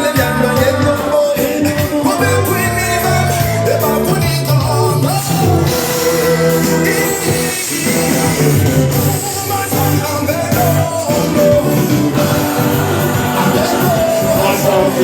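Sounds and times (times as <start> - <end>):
loud party music with singing: 0.0 - 15.0.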